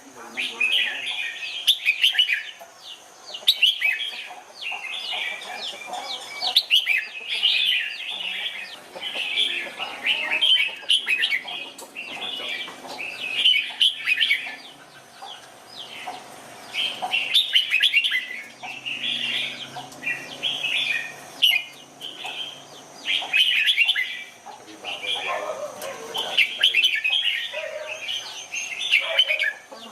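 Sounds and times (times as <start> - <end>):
bulbul singing: 0.1 - 29.9.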